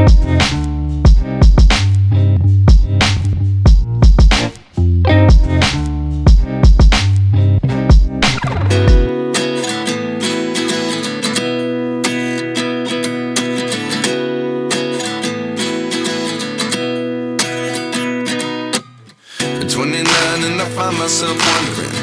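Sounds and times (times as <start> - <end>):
acoustic guitar strumming chords: 0.0 - 3.0, 3.8 - 22.0.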